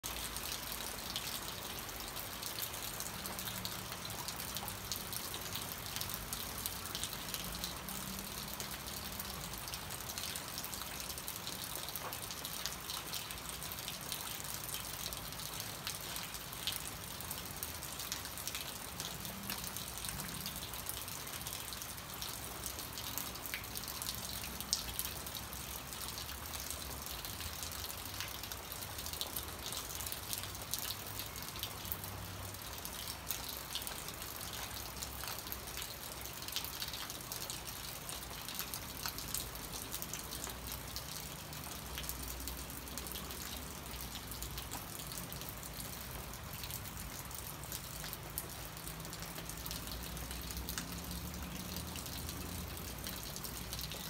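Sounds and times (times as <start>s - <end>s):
rain hiss: 0.0s - 54.0s
raindrops ticking on leaves: 0.0s - 54.0s.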